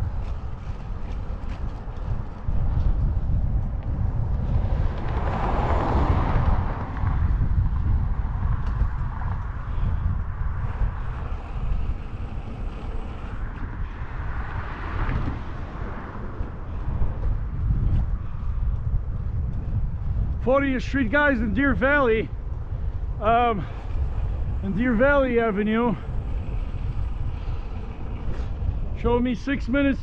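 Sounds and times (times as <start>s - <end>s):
passing road traffic: 0.0s - 30.0s
wind buffeting microphone: 0.0s - 30.0s.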